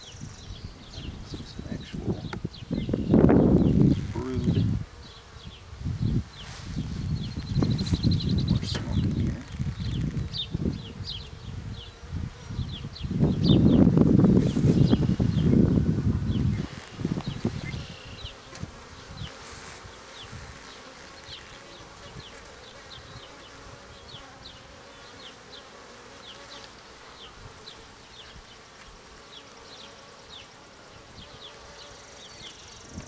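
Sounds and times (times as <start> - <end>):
bees buzzing: 0.0 - 33.0.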